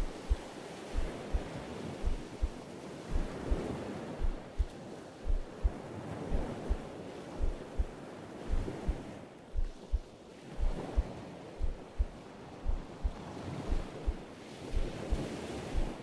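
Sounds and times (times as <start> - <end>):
slow heartbeat: 0.0 - 16.0
wind: 0.0 - 16.0.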